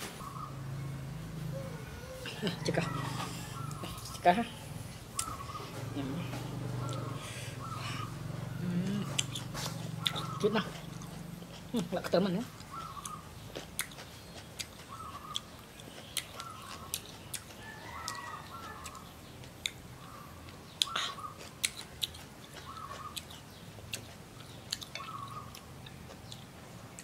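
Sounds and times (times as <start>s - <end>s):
crunching and chewing: 5.1s - 27.0s.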